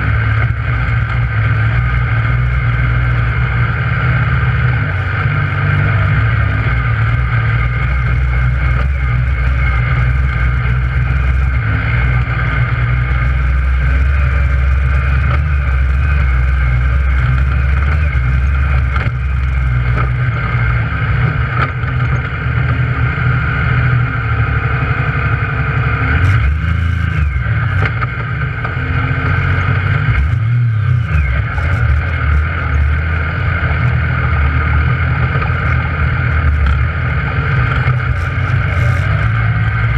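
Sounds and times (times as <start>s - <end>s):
vehicle engine under load: 0.0s - 39.9s.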